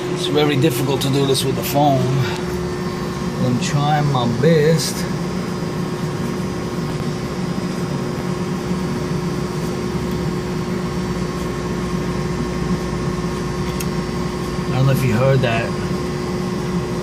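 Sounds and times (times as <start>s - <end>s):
machinery droning: 0.0s - 17.0s.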